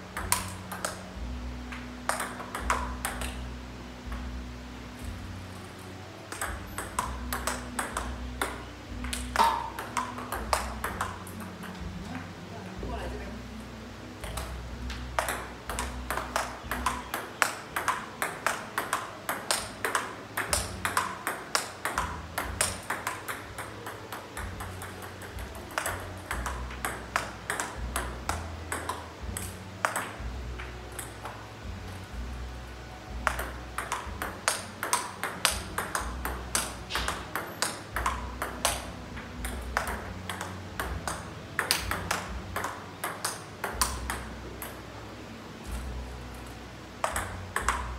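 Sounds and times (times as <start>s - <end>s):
table tennis ball hits: 0.1s - 4.3s, 5.0s - 12.2s, 14.2s - 32.3s, 33.1s - 44.9s, 45.7s - 47.9s.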